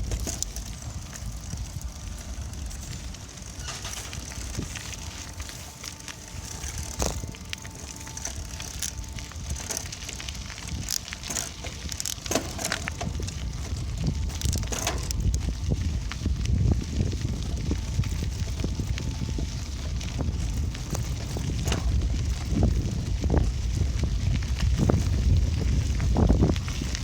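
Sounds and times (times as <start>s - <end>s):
bicycle tyres rolling: 0.0s - 27.0s
bike rattling and clicking: 0.0s - 27.0s
wind buffeting microphone: 0.0s - 27.0s.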